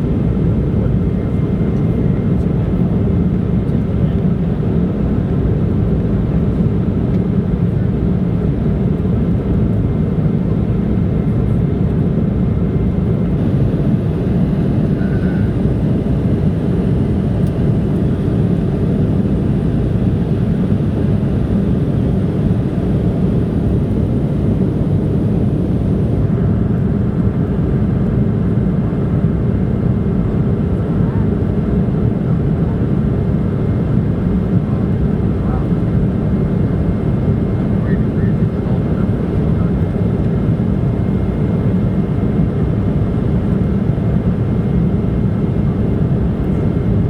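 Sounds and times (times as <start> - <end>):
airliner cabin engine noise: 0.0 - 47.0.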